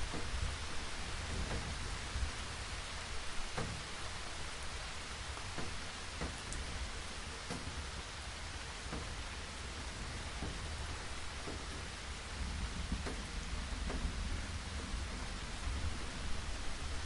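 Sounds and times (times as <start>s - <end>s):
low steady rumble: 0.0s - 17.0s
rain falling: 0.0s - 17.0s.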